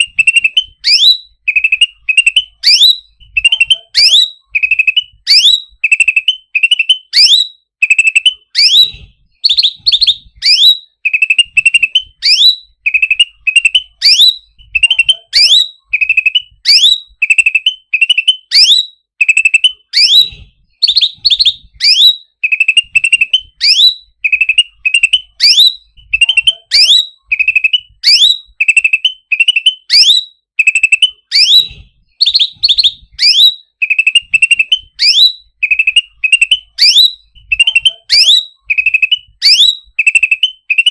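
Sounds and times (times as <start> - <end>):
songbird chirping and whistling: 0.0 - 40.9.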